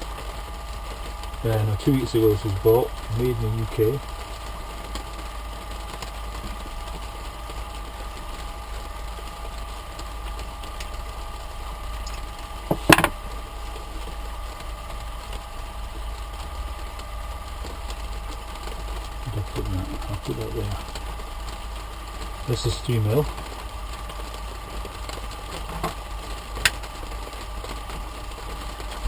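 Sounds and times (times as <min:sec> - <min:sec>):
electric fan motor hum: 0:00.0 - 0:29.0.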